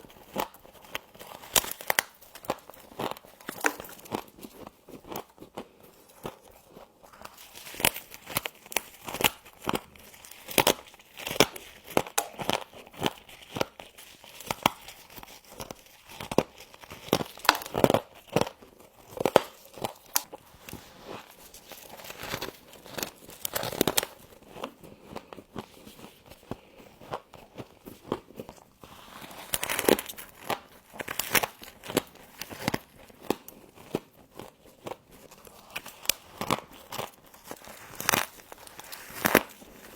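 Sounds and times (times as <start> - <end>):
frost crunching being chewed: 0.0 - 39.9.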